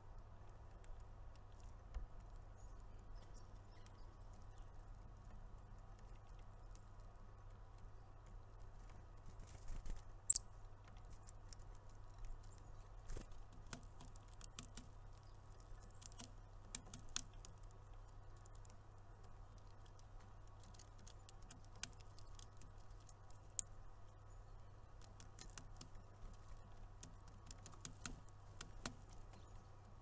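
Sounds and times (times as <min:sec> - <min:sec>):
faint low hum: 0:00.0 - 0:30.0
birds pecking clicks and taps: 0:00.3 - 0:30.0.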